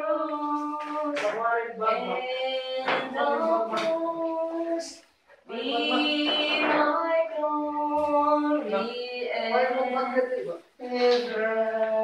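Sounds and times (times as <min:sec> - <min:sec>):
voices singing worship song: 0:00.0 - 0:12.0.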